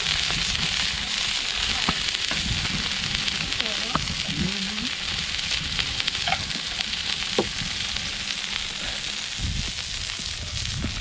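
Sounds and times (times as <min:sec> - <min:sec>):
fish sizzling on grill plate: 0:00.0 - 0:11.0
oil spitting crackles: 0:00.0 - 0:11.0.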